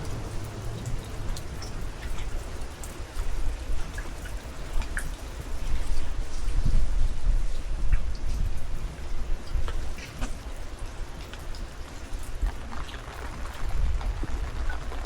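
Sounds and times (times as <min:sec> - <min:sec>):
rain falling: 0:00.0 - 0:15.0
raindrops hitting microphone: 0:00.0 - 0:15.0
wind rumble on microphone: 0:00.0 - 0:15.0.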